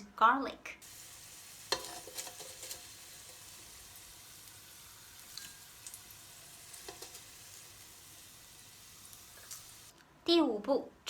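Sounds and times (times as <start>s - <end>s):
hot oil sizzling in a pan: 0.8s - 9.9s.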